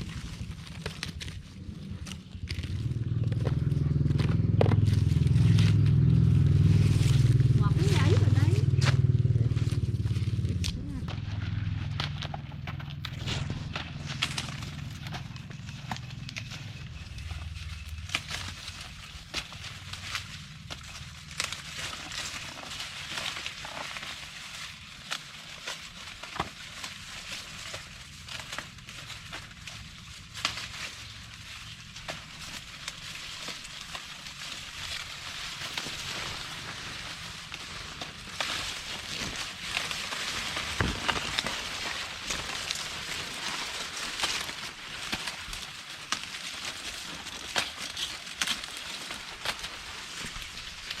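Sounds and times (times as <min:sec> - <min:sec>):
dry corn leaves rustling: 0:00.0 - 0:51.0
sharp snaps and crackles: 0:00.0 - 0:51.0.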